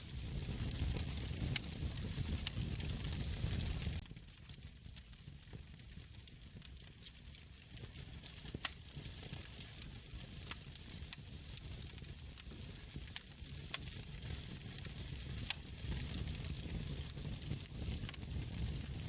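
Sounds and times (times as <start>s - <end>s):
wood fire crackling: 0.0s - 19.0s
sharp fire pops: 0.1s - 4.6s, 7.8s - 19.0s.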